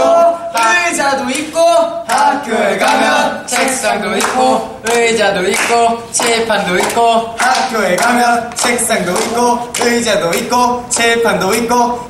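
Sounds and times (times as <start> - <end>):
men chanting rhyme: 0.0 - 12.0.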